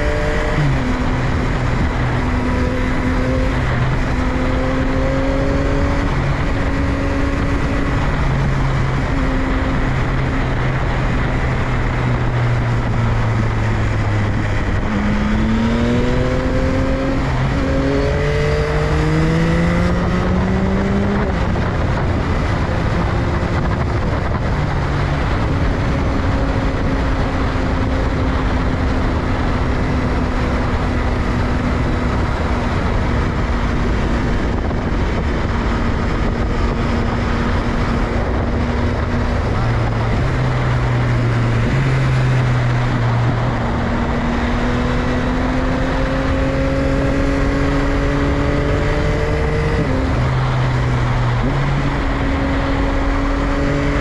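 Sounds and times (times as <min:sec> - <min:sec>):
motorcycle engine: 0:00.0 - 0:54.0
wind rush on microphone: 0:00.0 - 0:54.0.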